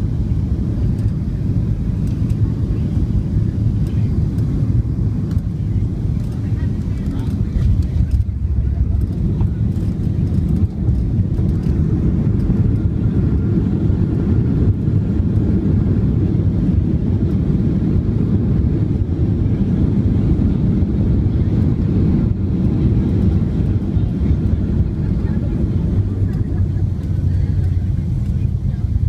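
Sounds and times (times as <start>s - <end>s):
aircraft engines rumbling: 0.0s - 29.0s.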